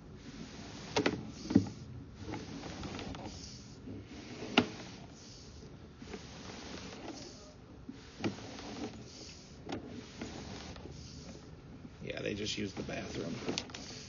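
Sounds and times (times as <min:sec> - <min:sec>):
cable hissing through pipe: 0:00.0 - 0:14.0.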